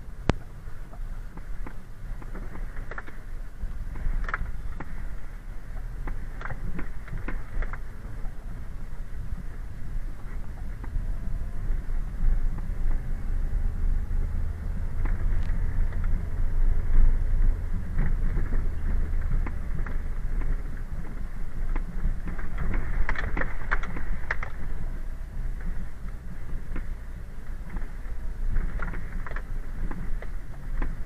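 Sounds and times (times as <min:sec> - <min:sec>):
car engine and tyres rumbling: 0:00.0 - 0:31.0
car knocking and rattling: 0:00.1 - 0:31.0.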